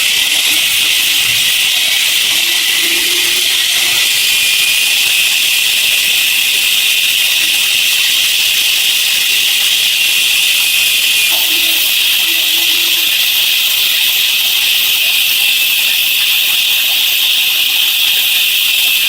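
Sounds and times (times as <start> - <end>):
loud steady hiss: 0.0 - 19.0.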